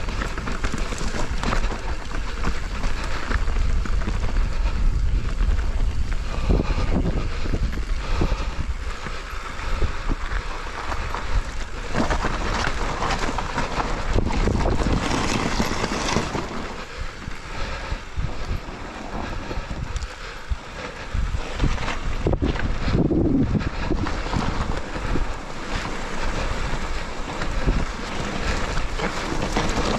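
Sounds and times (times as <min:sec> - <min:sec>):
bike rattling over rough dirt: 0:00.0 - 0:29.9
wind buffeting microphone: 0:00.0 - 0:29.9.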